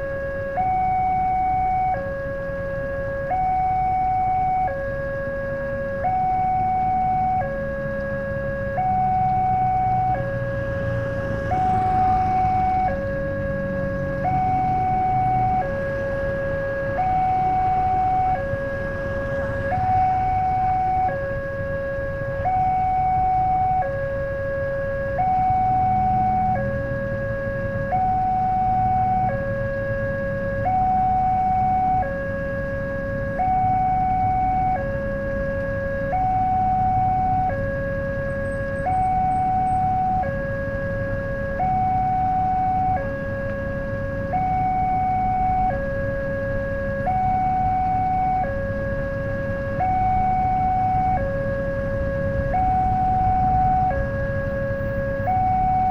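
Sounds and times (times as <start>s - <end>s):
level crossing alarm: 0.0s - 55.9s
low engine rumble: 6.0s - 55.9s.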